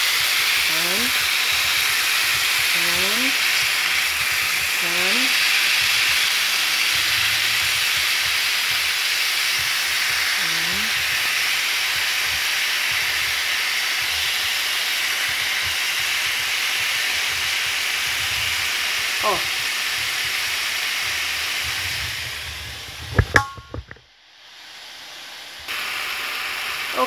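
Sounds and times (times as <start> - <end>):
meat sizzling in a frying pan: 0.0 - 23.4, 24.5 - 27.0.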